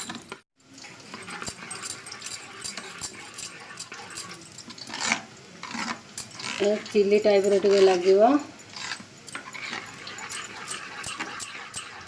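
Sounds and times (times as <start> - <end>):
spoon mixing food in a bowl: 0.0 - 12.0.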